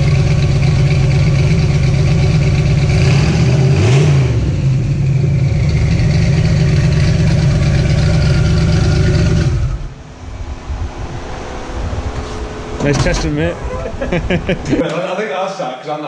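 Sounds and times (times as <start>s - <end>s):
drag car engine revving then idling: 0.0s - 13.6s.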